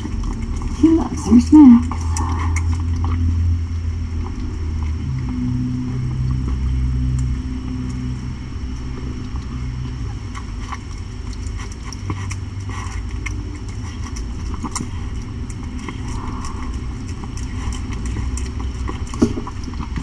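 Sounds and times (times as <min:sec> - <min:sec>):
cat chewing wet food: 0:00.0 - 0:20.0
steady low hum: 0:00.0 - 0:20.0.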